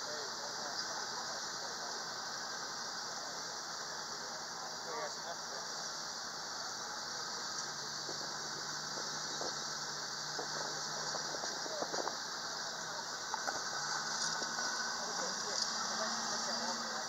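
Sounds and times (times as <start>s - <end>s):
high-pitched background hiss: 0.0s - 17.0s
vehicle engine hum: 0.0s - 17.0s.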